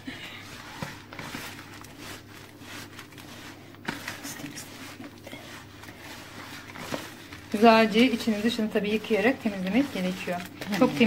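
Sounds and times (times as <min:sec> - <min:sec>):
hands squishing moist stuffing: 0:00.0 - 0:11.0.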